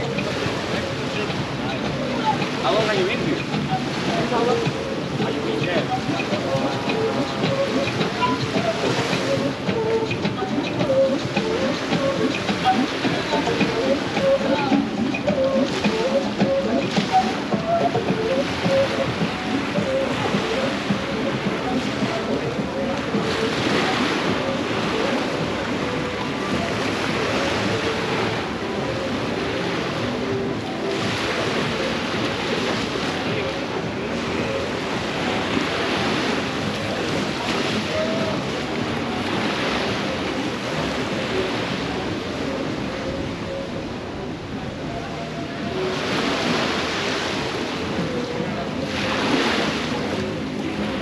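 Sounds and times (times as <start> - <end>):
ocean surf breaking on beach: 0.0 - 51.0.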